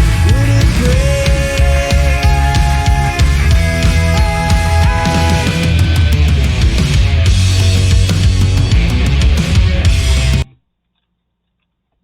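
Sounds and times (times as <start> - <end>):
driving drums: 0.0 - 10.5
bass: 0.0 - 10.6
distorted electric guitars: 0.0 - 10.6.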